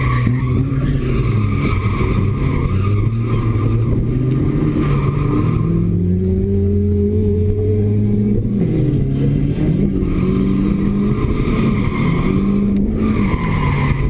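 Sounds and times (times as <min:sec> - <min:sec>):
car engine revving high: 0:00.0 - 0:14.0.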